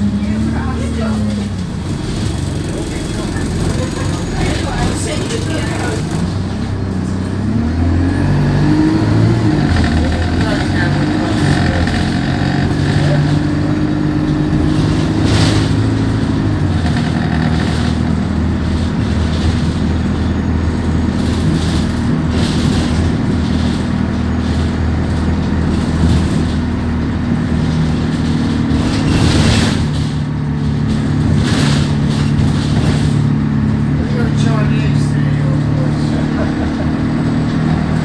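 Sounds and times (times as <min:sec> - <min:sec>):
bus diesel engine running: 0:00.0 - 0:38.0.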